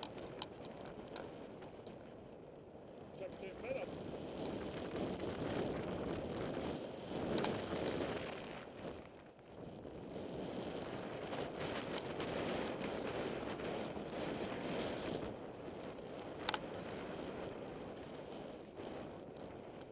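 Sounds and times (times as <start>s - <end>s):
bike rolling on gravel: 0.0s - 19.9s
wind buffeting microphone: 0.0s - 19.9s.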